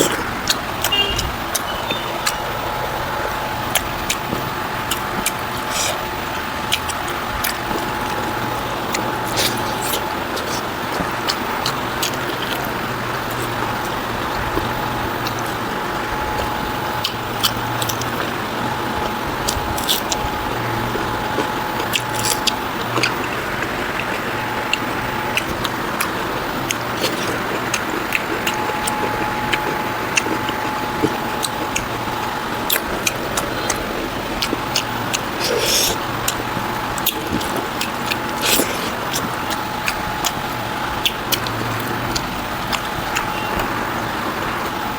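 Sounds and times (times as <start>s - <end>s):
chewing food: 0.0s - 44.9s
faint hum: 0.0s - 44.9s
faint steady whine: 0.0s - 44.9s.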